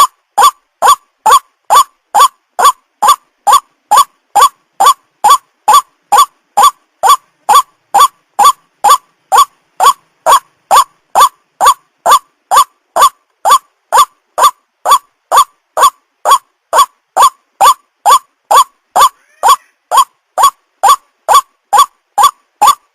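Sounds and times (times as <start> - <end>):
waterhen calling: 0.0 - 22.8.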